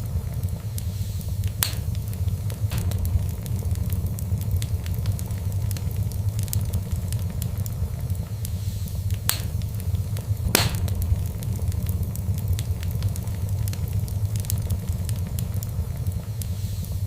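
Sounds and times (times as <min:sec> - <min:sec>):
fireplace fire crackling: 0:00.0 - 0:17.0
loud fire pops: 0:00.0 - 0:17.0.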